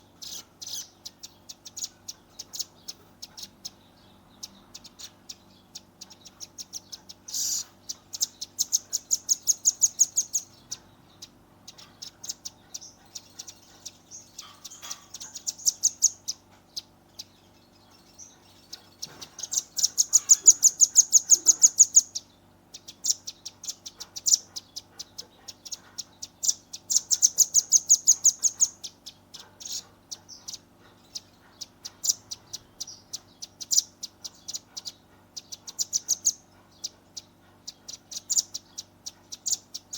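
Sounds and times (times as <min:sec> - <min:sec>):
bird ticking call: 0:00.2 - 0:39.9.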